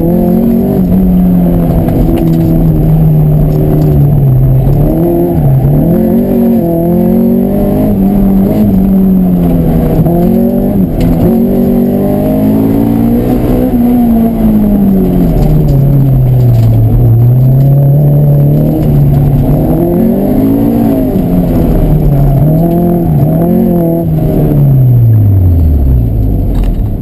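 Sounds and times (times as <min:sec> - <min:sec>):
car engine revving from cabin: 0:00.0 - 0:27.0.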